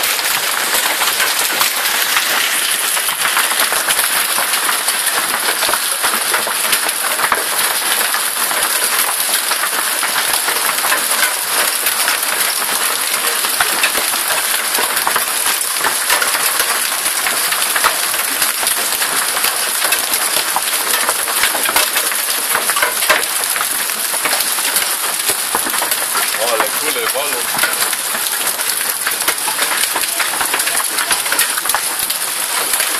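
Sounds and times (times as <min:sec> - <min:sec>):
hail and heavy rain: 0:00.0 - 0:32.9.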